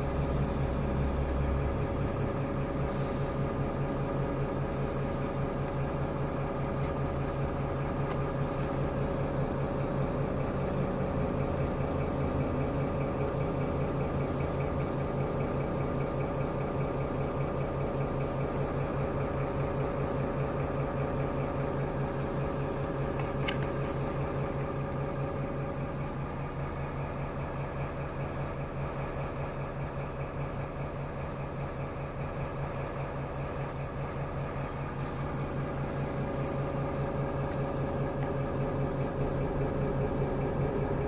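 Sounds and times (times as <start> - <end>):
bus engine droning: 0.0 - 41.0.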